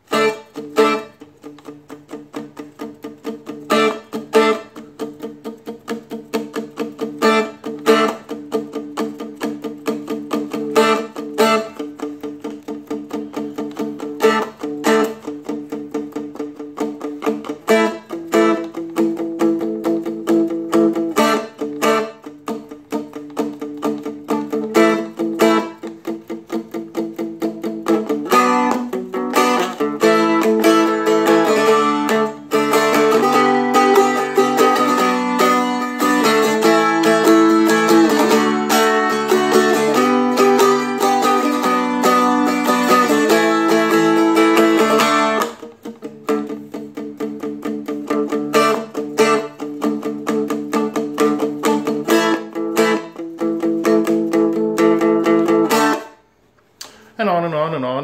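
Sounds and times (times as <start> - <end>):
strumstick strummed: 0.0 - 57.1.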